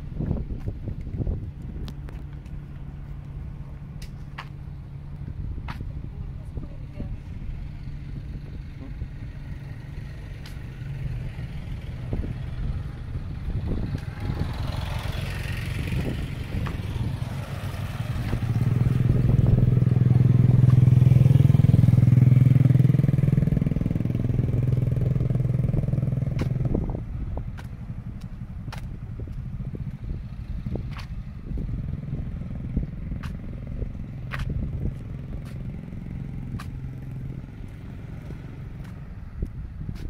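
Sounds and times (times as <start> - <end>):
scooter engines humming: 0.0 - 40.0.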